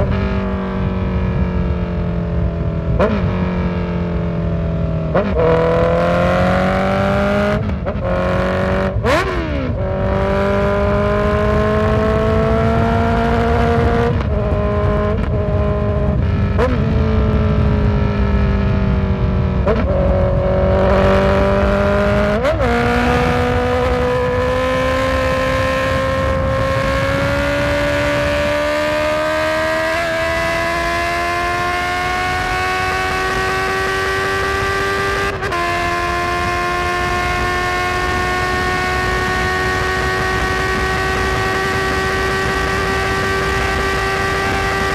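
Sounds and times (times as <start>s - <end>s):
motorcycle engine under way: 0.0s - 44.9s.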